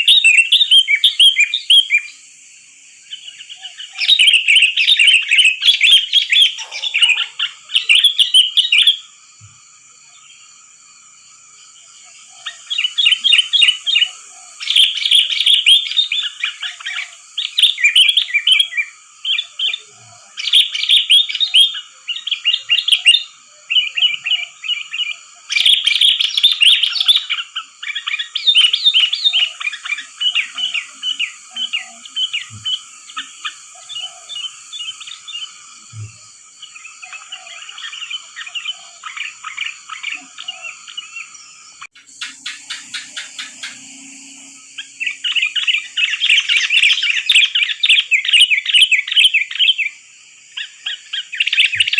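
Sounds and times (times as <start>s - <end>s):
bulbul bubbly chirping song: 3.1s - 9.1s, 12.2s - 51.9s.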